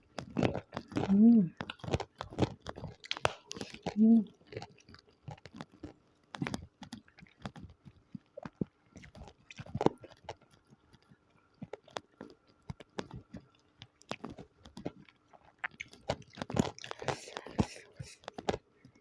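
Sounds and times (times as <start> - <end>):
chewing mouth clicks: 0.1 - 19.0.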